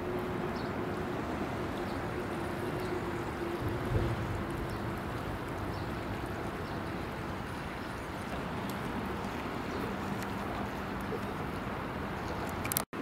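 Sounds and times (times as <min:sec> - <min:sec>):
rushing lake water: 0:00.0 - 0:13.0.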